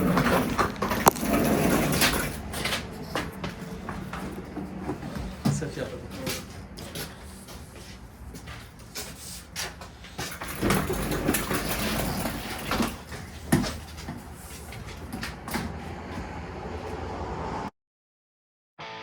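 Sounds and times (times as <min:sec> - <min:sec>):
nozzle knocking and scraping: 0:00.0 - 0:16.0
shop vacuum running: 0:00.0 - 0:17.7.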